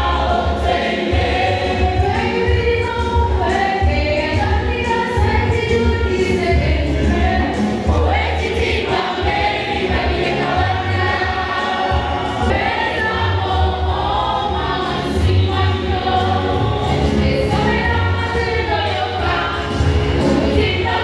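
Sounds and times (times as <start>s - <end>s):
girls choir singing gospel: 0.0s - 4.4s, 6.5s - 21.0s.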